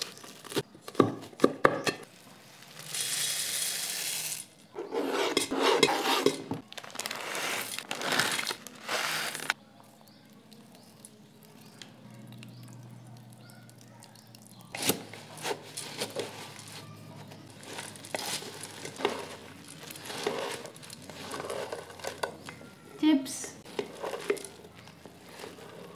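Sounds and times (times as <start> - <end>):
crunchy stirring rustle: 2.0 - 25.9.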